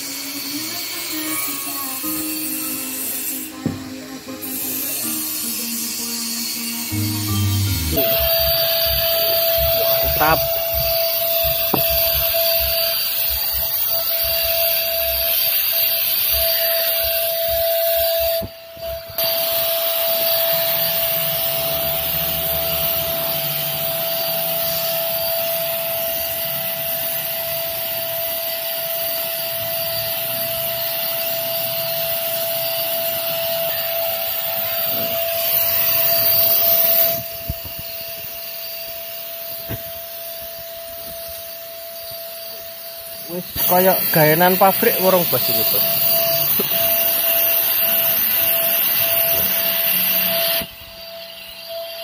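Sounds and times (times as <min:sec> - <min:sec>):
electric paint spray gun whining: 0:00.0 - 0:52.0.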